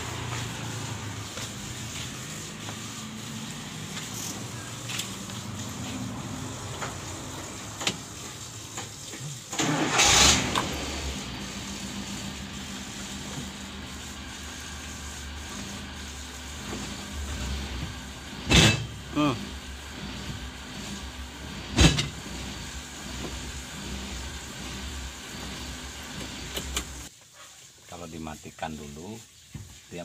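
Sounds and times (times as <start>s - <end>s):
van engine starting and idling: 0.0s - 27.1s.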